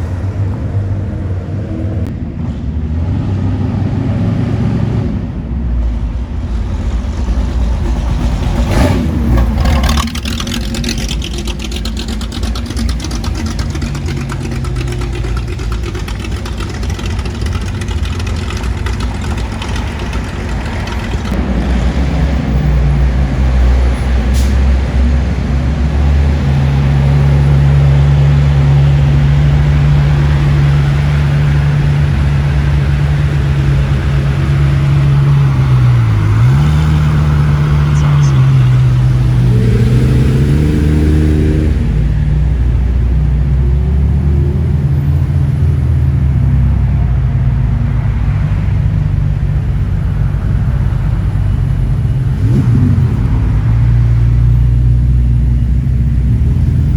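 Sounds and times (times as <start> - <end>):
car engine droning and revving: 0.0 - 56.9.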